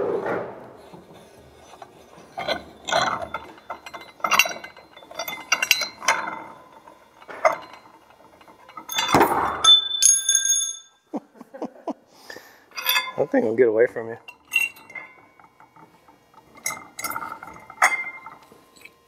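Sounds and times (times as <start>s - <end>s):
metal rod clanking and ringing: 0.8s - 11.0s, 12.7s - 13.6s, 14.2s - 19.0s
metal tool clinking and knocking: 0.8s - 11.0s, 12.7s - 13.6s, 14.2s - 19.0s.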